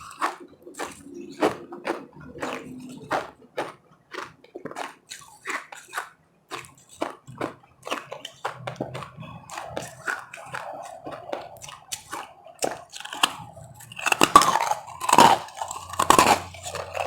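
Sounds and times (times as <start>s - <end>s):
ice crunching in mouth: 0.0s - 17.0s.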